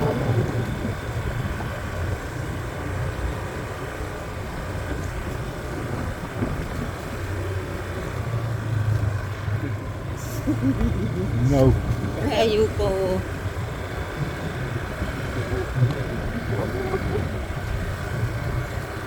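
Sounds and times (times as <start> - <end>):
motorbike engine humming: 0.0 - 19.0
road noise: 0.0 - 19.0.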